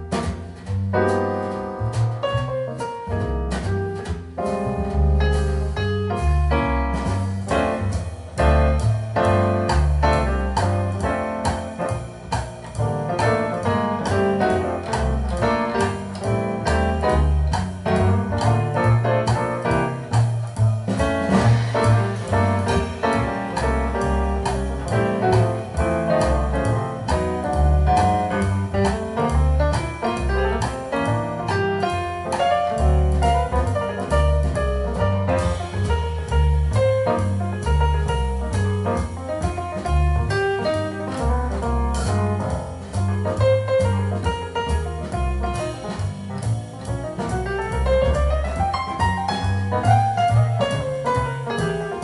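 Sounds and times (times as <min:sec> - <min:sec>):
swing jazz piano trio: 0:00.0 - 0:52.0.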